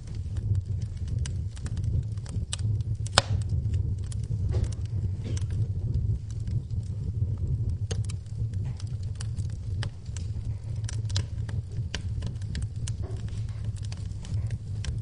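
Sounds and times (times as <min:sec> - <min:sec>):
low rumble of flames: 0:00.0 - 0:15.0
wood fire popping and snapping: 0:00.0 - 0:15.0.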